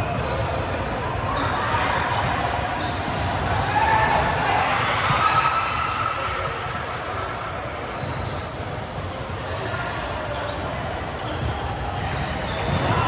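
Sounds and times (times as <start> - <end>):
ball bouncing in a hall: 0.0 - 13.0.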